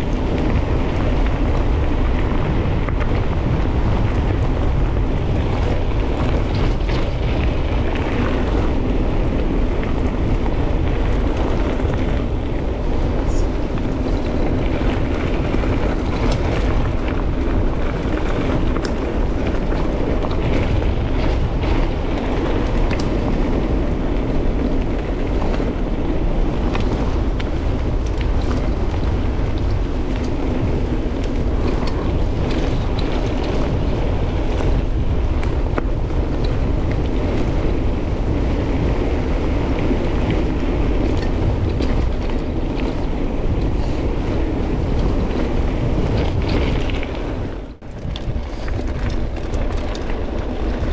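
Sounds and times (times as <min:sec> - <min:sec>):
bike clicks and rattles: 0:00.0 - 0:50.9
tyres rumbling on rough track: 0:00.0 - 0:50.9
wind buffeting microphone: 0:00.0 - 0:50.9.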